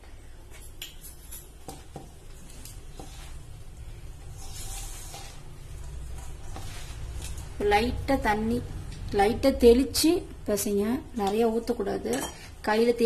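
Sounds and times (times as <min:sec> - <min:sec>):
hand mixing onions in steel bowl: 0:00.4 - 0:13.0.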